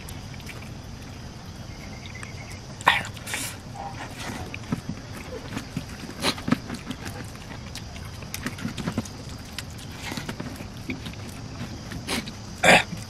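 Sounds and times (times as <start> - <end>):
wet chewing and lip smacks: 0.0 - 13.0.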